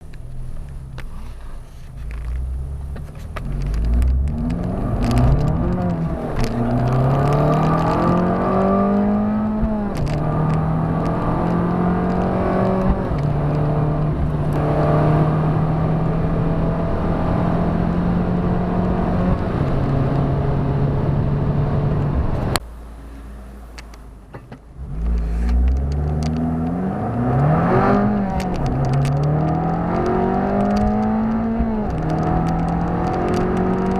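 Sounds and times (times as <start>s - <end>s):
car engine accelerating through gears: 2.1s - 22.6s, 24.8s - 33.9s.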